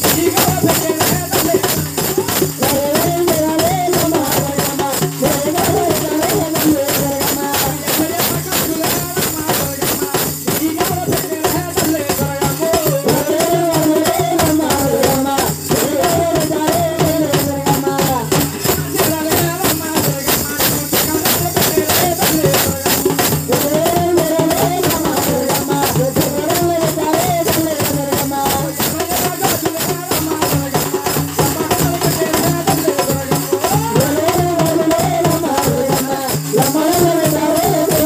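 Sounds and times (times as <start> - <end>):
jingling bells and percussion: 0.0 - 38.0
man singing into microphone: 0.0 - 38.0.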